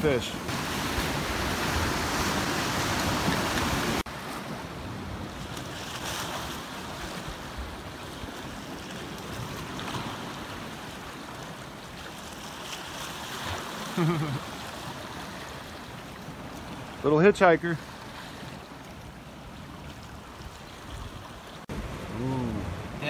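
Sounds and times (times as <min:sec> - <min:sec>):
ocean surf against rocks: 0:00.0 - 0:23.0.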